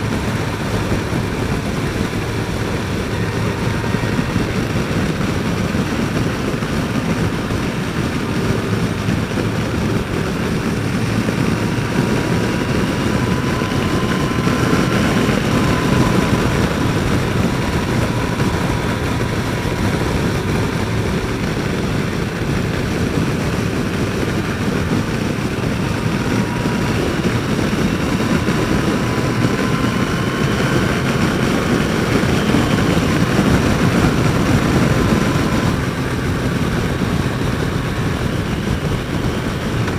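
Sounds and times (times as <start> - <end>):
motorcycle engine cruising: 0.0 - 39.9
road noise: 0.0 - 39.9
wind rush: 0.0 - 39.9.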